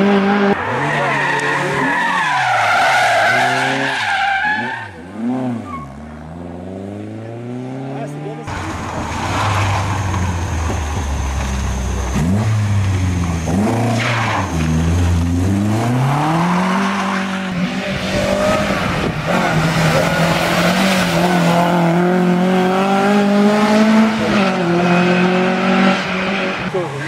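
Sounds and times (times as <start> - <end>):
rally car engine revving hard: 0.0 - 2.2, 4.6 - 27.0.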